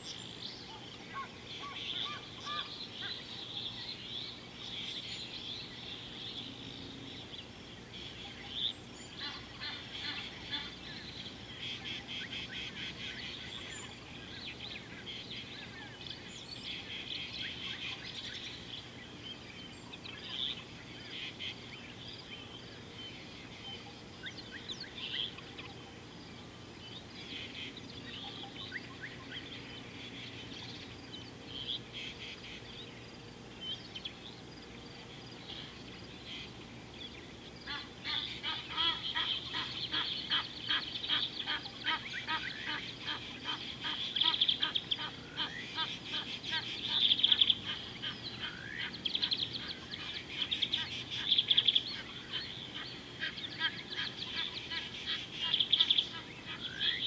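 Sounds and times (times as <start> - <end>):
faint steady hum: 0.0 - 57.0
wild birds chirping and trilling: 0.0 - 57.0.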